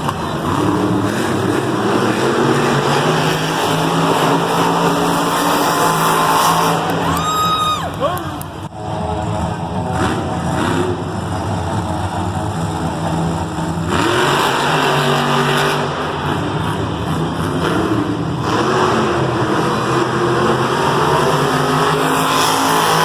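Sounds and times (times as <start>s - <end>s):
monster truck engines revving: 0.0s - 23.0s.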